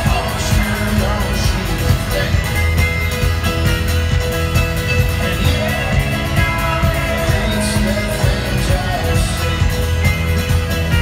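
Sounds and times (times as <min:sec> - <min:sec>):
live folk-rock band playing: 0:00.0 - 0:11.0.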